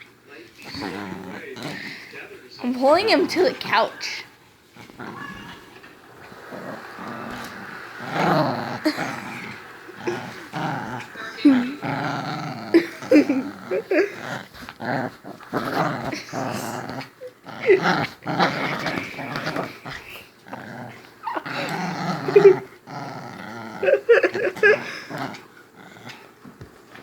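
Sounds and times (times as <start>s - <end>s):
dog growling: 0.5s - 27.0s.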